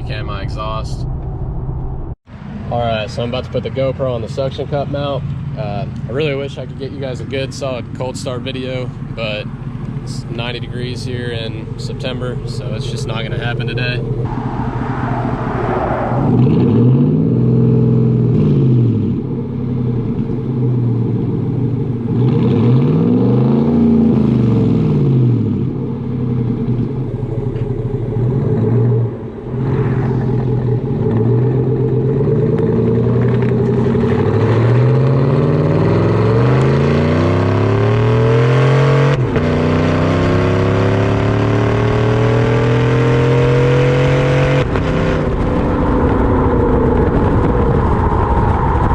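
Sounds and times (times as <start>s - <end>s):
truck engine revving: 0.8s - 48.0s.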